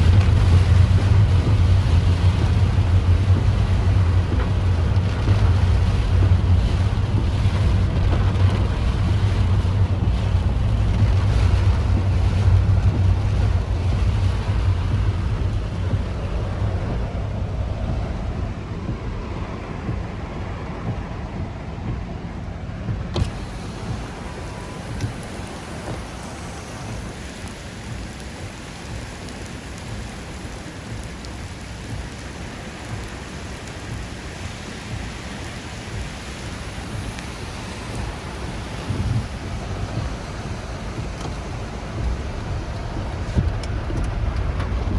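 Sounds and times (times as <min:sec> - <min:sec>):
low rumble: 0:00.0 - 0:30.1, 0:34.9 - 0:44.9
heavy rain: 0:00.0 - 0:44.9
strong wind: 0:00.0 - 0:44.9
wind buffeting microphone: 0:00.0 - 0:44.9.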